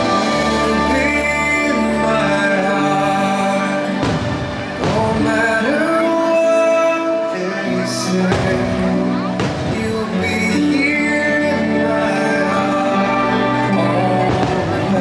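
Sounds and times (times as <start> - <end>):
soundtrack music with singing: 0.0 - 15.0.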